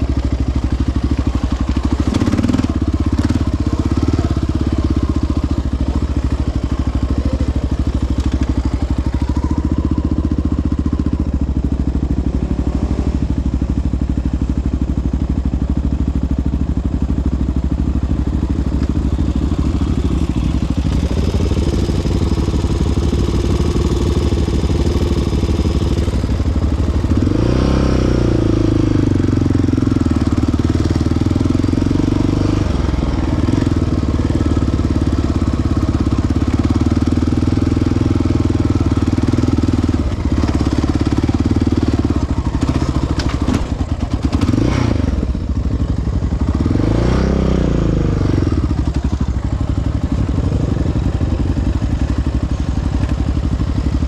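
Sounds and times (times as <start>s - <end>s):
quad engine revving: 0.0s - 11.2s, 19.0s - 54.0s.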